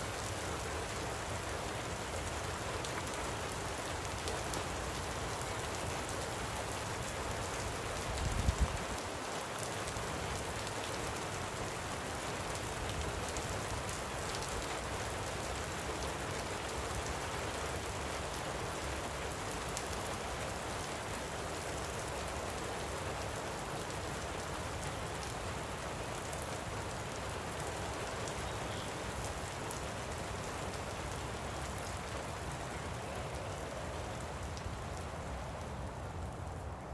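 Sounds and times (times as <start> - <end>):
light rain falling: 0.0 - 36.9.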